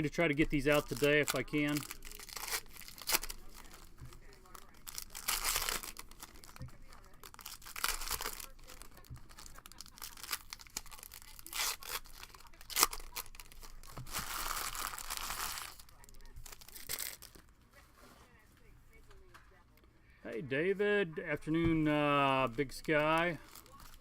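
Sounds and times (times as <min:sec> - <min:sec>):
wrappers tearing and crinkling: 0:00.0 - 0:17.5, 0:22.3 - 0:24.0.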